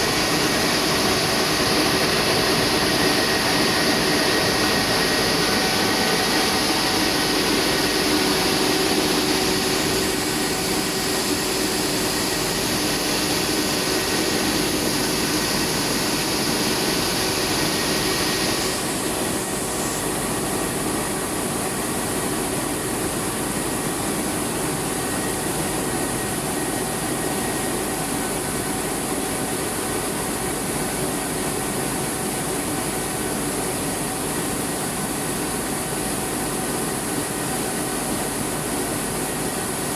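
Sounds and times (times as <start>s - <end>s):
milling machinery whir and hum: 0.0s - 39.9s.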